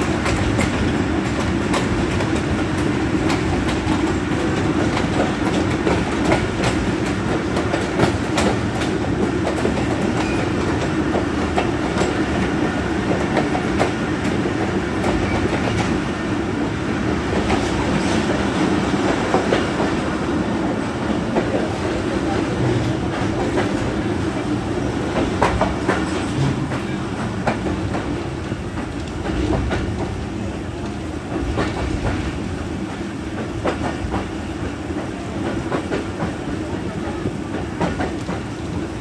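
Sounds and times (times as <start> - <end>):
train wheels clicking over rail joints: 0.0 - 16.0, 17.1 - 38.9
train carriage rumbling: 0.0 - 39.0.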